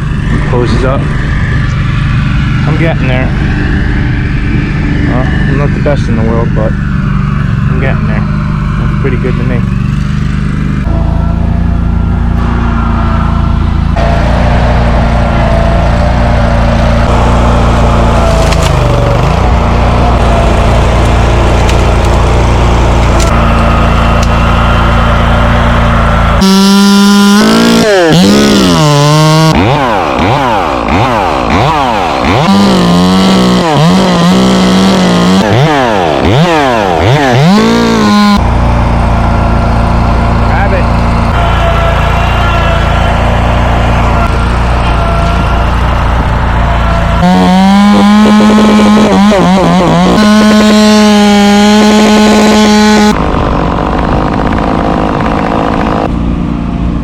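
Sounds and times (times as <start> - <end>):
chainsaw running at high revs: 0.0 - 56.9
steady engine drone: 0.0 - 57.0.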